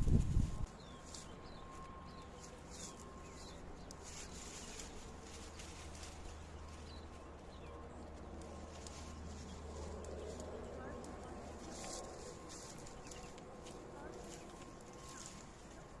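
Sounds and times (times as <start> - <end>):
low steady hum: 0.0 - 16.0
small birds chirping: 0.1 - 16.0.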